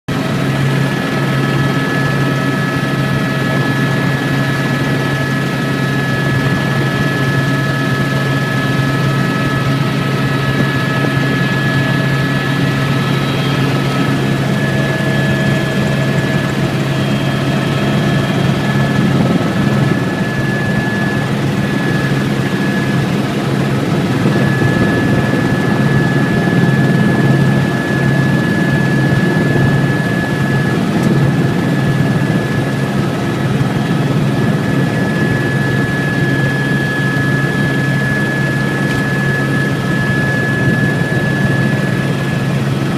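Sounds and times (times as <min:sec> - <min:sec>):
helicopter high whine: 0:00.1 - 0:42.9
helicopter rotor thrum: 0:00.2 - 0:42.9.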